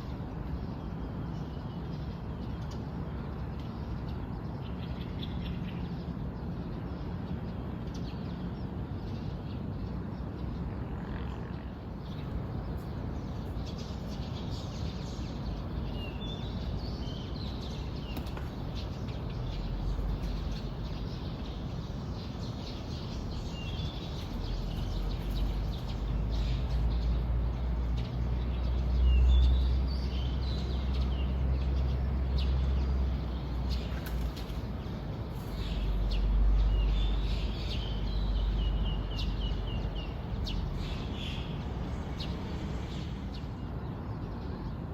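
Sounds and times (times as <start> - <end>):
wild birds chirping: 3.6 - 44.9.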